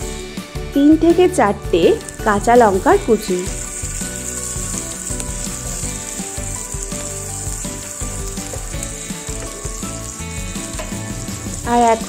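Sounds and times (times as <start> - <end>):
background music: 0.0 - 12.0
food sizzling in oil: 0.0 - 12.0.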